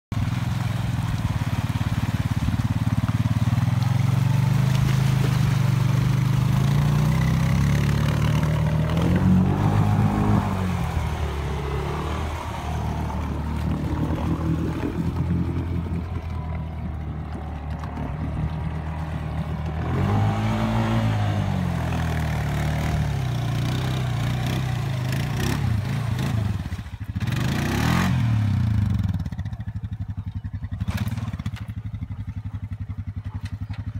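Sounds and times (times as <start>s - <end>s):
atv engine revving: 0.2s - 33.9s.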